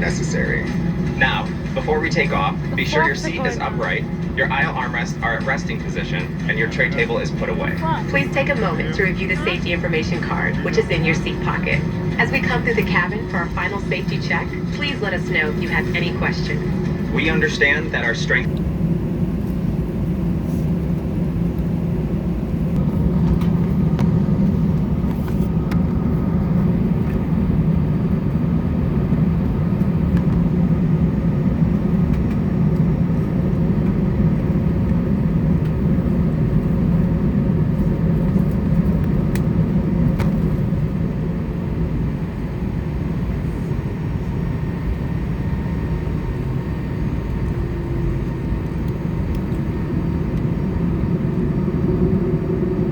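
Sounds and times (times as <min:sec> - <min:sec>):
jet engines humming in cabin: 0:00.0 - 0:52.9.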